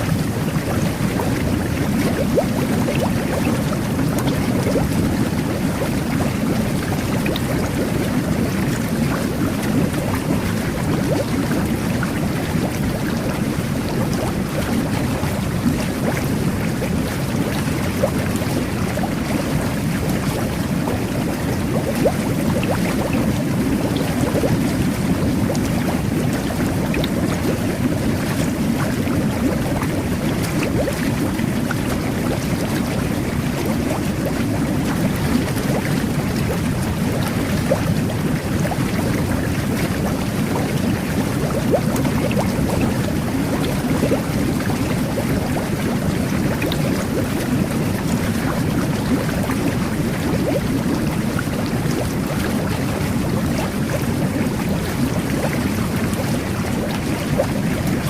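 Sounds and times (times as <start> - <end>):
water and air bubbles churning: 0.0 - 58.0.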